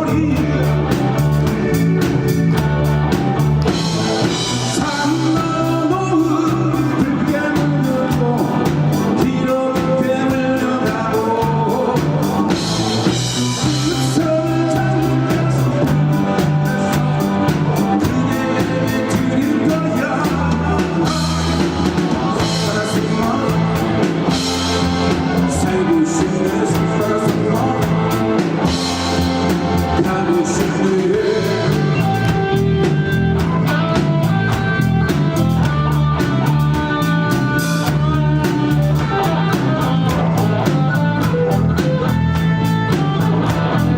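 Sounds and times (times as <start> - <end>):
bass guitar: 0.0 - 43.9
drum kit beat: 0.0 - 43.9
electric guitar: 0.0 - 43.9
person singing: 0.0 - 43.9.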